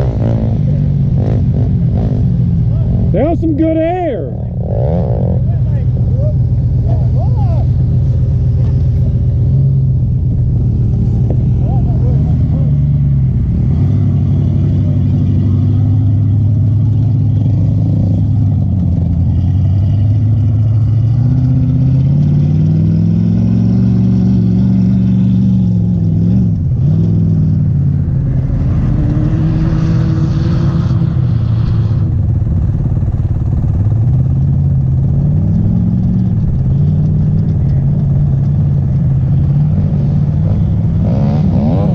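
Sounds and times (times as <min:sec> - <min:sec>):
atv engine revving: 0:00.0 - 0:41.9.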